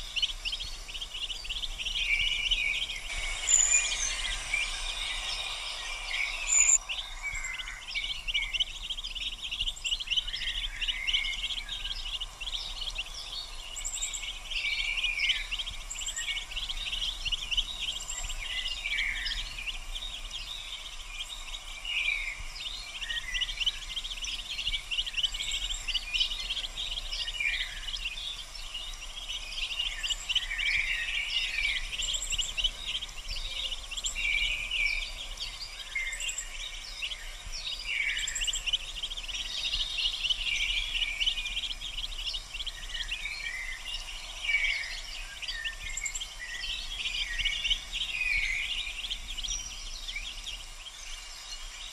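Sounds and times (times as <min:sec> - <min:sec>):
ducklings peeping: 0:00.0 - 0:51.7.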